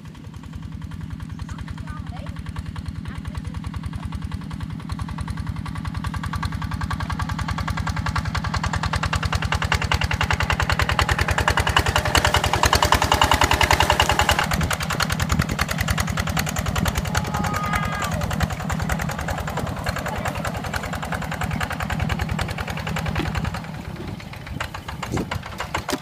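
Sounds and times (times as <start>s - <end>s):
walk-behind tractor engine running: 0.0s - 26.0s.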